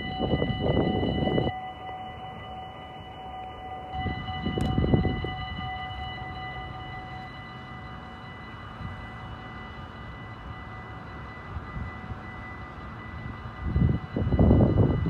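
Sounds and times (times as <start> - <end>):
level crossing bells ringing: 0.0 - 15.0.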